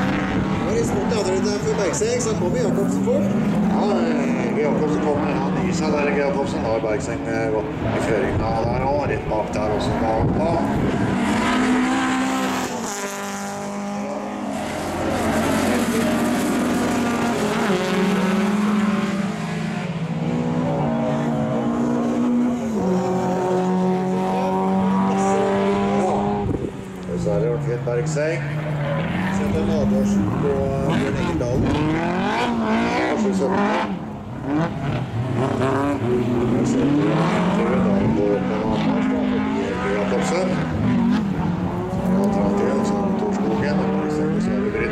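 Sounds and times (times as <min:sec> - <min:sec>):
racing car engines: 0:00.0 - 0:44.9.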